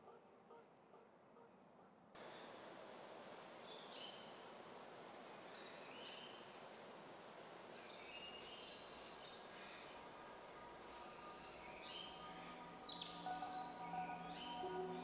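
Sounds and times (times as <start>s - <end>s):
faint background hiss: 0.0s - 15.0s
birds chirping: 2.2s - 15.0s.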